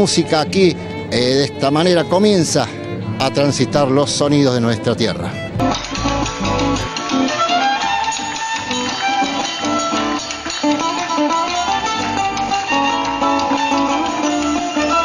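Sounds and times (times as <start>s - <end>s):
folk music on guitars: 0.0s - 15.0s.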